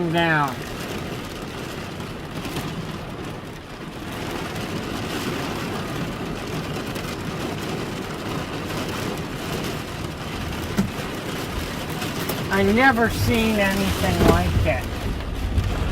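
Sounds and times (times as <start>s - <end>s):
heavy rain falling: 0.0s - 15.9s
vehicle rumble: 0.0s - 15.9s.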